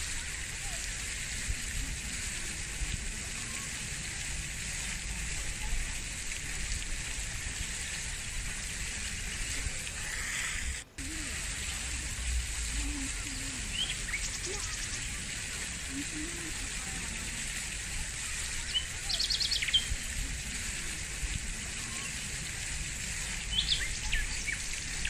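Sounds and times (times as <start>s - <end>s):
outdoor hiss: 0.0s - 25.0s
wind rumbling on microphone: 0.0s - 25.0s.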